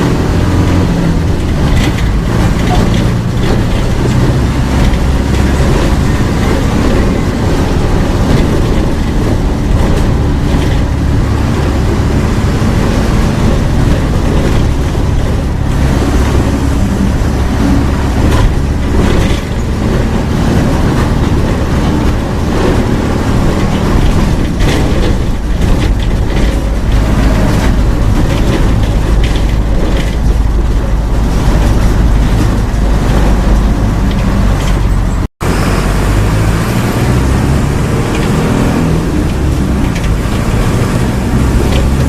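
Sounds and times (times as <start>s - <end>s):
bus diesel engine revving high: 0.0s - 42.0s.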